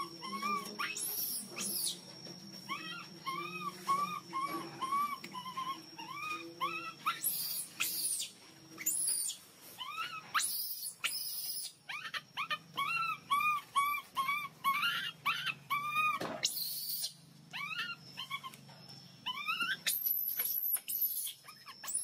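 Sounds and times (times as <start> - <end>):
baby monkey whimpering calls: 0.0 - 2.0, 2.7 - 18.6, 19.2 - 22.0
shrill monkey screams: 0.0 - 2.0, 2.7 - 18.6, 19.2 - 22.0.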